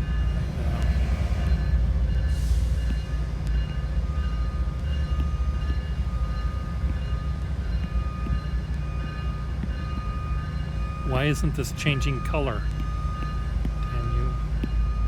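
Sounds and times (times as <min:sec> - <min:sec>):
train rumbling by: 0:00.0 - 0:15.0.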